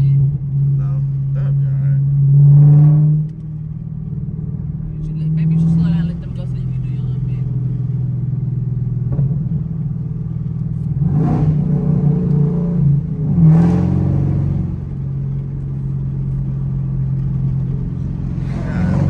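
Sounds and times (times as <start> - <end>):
car engine revving and cruising: 0.0 - 19.0.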